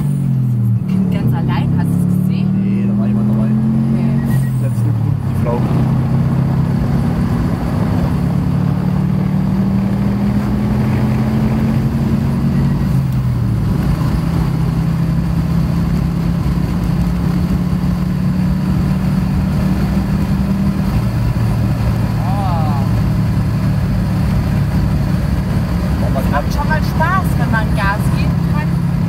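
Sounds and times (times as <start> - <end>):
car engine cruising: 0.0 - 29.0
road noise: 0.0 - 29.0.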